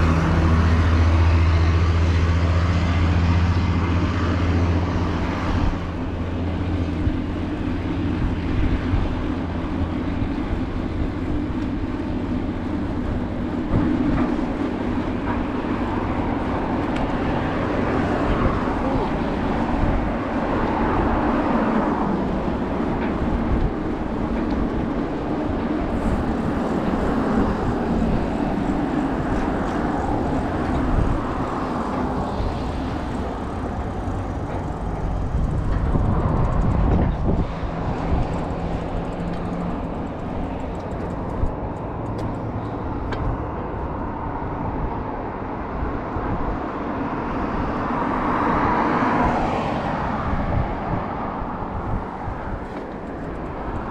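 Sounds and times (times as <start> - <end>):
road traffic passing: 0.0 - 53.9
wind buffeting microphone: 0.0 - 53.9.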